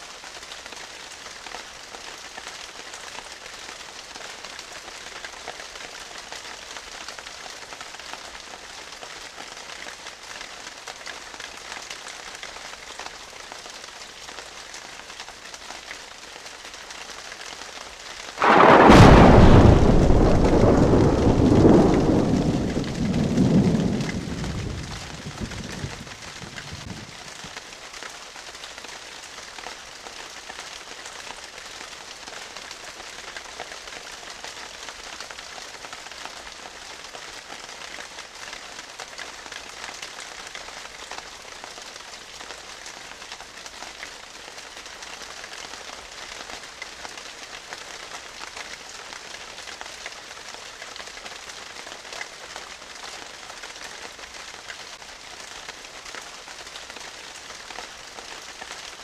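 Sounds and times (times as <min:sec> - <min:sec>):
steady crackling hiss: 0:00.0 - 0:59.0.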